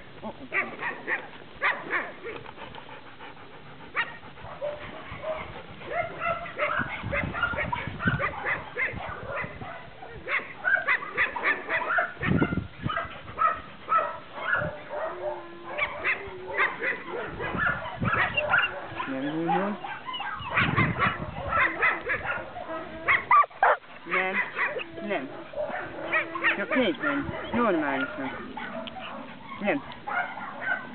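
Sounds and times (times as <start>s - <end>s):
dog barking and yipping: 0.5s - 2.4s, 3.9s - 30.9s.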